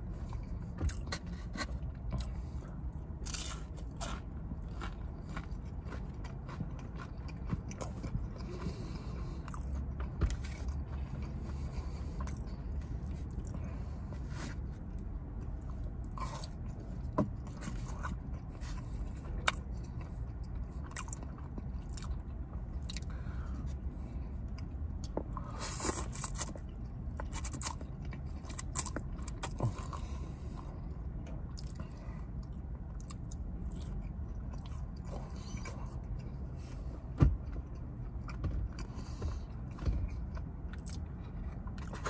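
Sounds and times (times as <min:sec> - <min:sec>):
person chewing food: 0:00.0 - 0:42.0.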